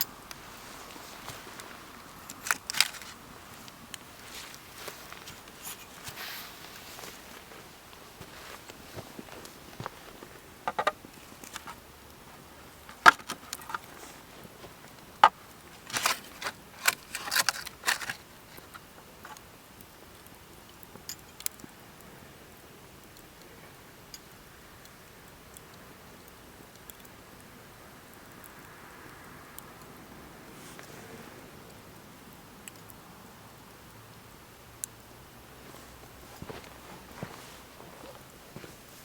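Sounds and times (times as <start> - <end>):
faint steady hiss: 0.0 - 39.0
wood fire crackling: 0.0 - 39.0.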